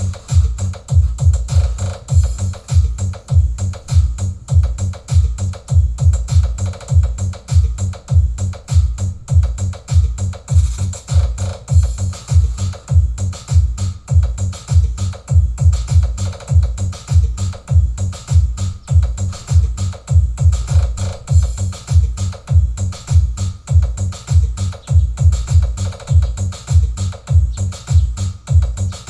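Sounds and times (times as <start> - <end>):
electronic dance music: 0.0 - 29.0
heavy bass drum beat: 0.0 - 29.0.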